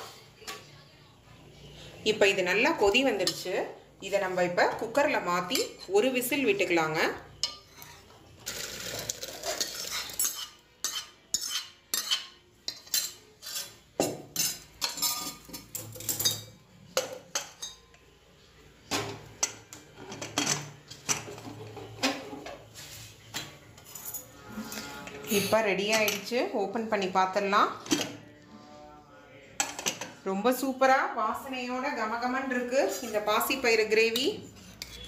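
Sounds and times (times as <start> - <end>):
ladle and pots clinking and scraping: 2.0 - 18.0, 18.8 - 28.3, 29.6 - 30.3, 32.5 - 35.0.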